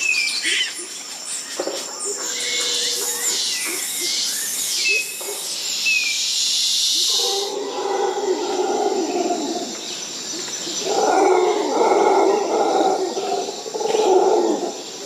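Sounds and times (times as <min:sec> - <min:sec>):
birds chirping and whistling: 0:00.0 - 0:15.0
steady high-pitched hiss: 0:00.0 - 0:15.0.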